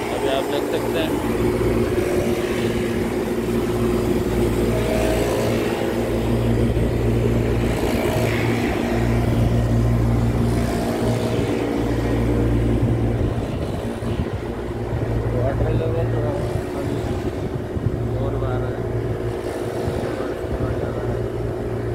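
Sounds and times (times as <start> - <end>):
chiller humming: 0.0 - 21.9.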